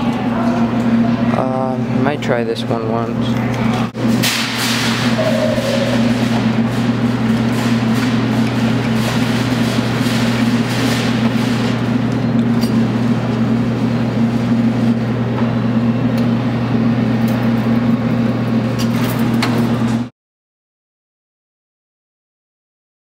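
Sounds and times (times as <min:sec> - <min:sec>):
claw machine electrical hum: 0:00.0 - 0:20.1.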